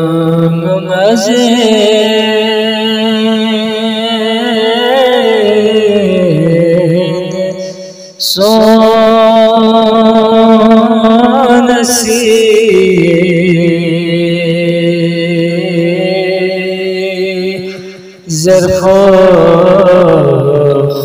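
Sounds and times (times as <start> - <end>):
person singing chant-like melody: 0.0 - 21.0.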